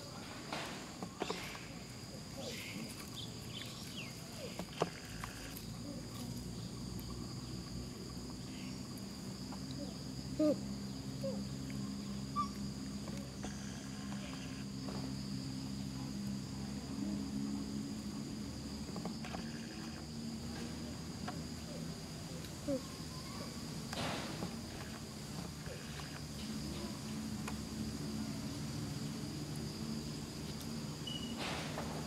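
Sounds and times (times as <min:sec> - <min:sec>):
insect chirring: 0:00.0 - 0:32.0.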